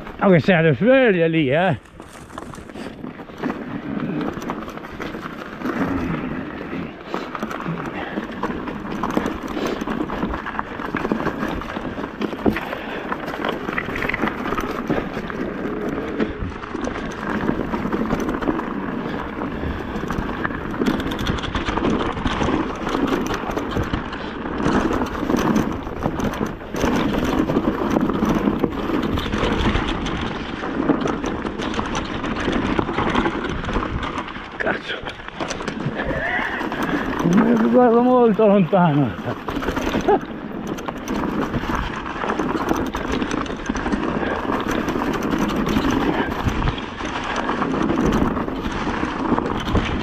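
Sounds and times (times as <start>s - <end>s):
bike frame and chain rattling: 0.0s - 50.0s
bike tyres crunching over dirt: 0.0s - 50.0s.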